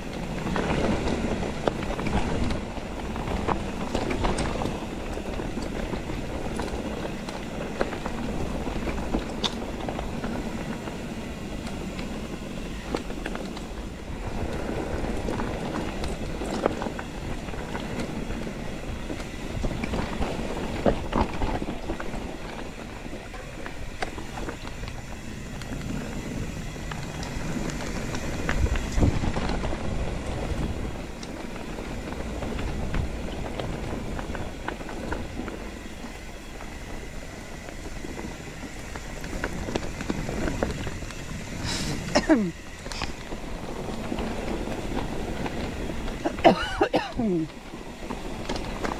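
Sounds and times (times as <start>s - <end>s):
bike rattles and knocks: 0.0s - 48.9s
tyres rumbling on dirt: 0.0s - 48.9s.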